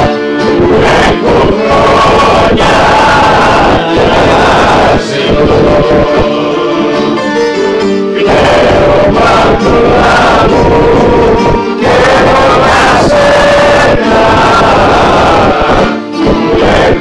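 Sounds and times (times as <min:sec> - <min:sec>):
accordion: 0:00.0 - 0:17.0
men singing together: 0:00.0 - 0:17.0.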